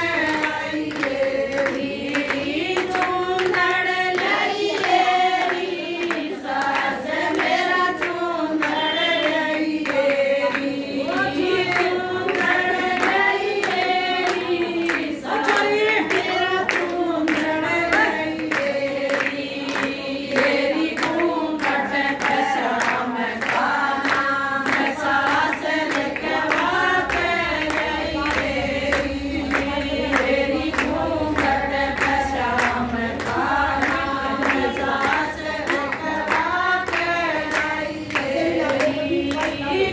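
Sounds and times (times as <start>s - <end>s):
hand-clapping in time: 0.0s - 39.9s
women singing together: 0.0s - 39.9s.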